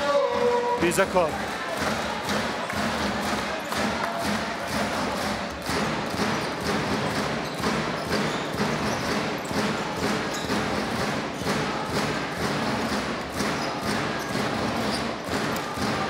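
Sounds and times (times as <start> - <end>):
arena crowd noise: 0.0 - 16.0.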